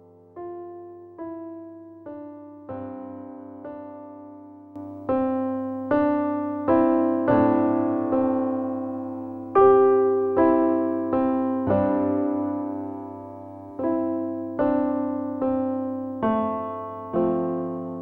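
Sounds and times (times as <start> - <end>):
slow electric piano tune: 0.0 - 18.0.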